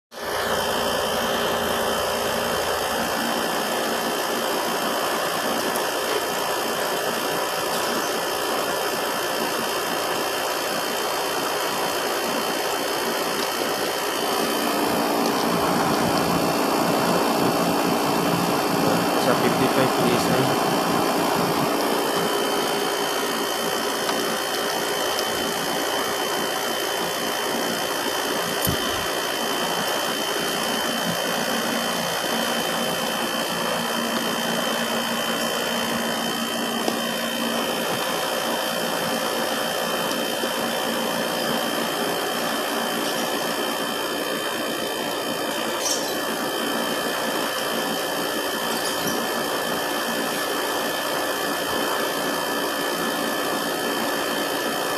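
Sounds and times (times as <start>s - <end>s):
compressor humming: 0.1s - 54.9s
fan air rushing: 0.2s - 54.9s.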